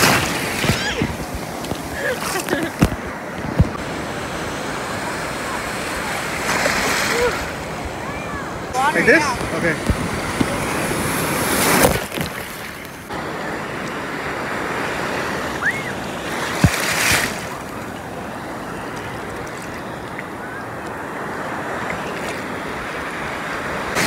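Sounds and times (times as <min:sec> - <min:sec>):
ocean surf breaking: 0:00.0 - 0:24.0
white water rushing at microphone: 0:00.0 - 0:24.0.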